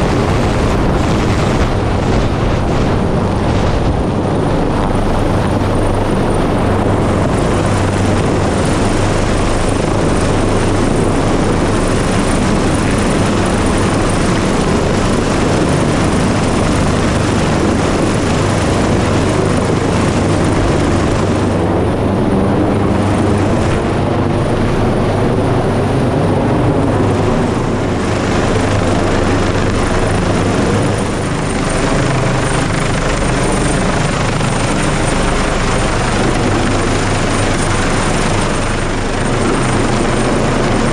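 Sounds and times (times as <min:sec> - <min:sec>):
helicopter hovering overhead: 0:00.0 - 0:40.9.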